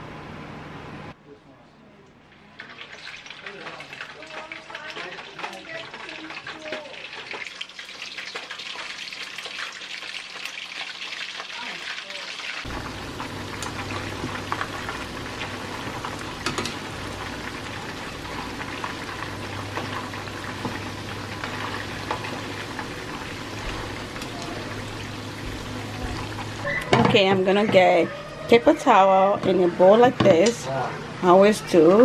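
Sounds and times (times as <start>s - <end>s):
fish deep-frying in oil: 2.5s - 30.6s.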